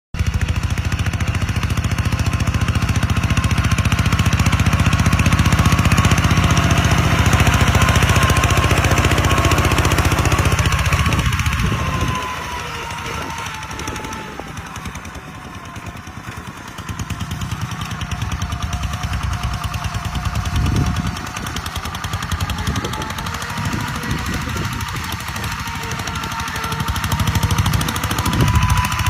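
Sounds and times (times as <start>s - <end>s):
diesel engine chugging: 0.2s - 29.0s.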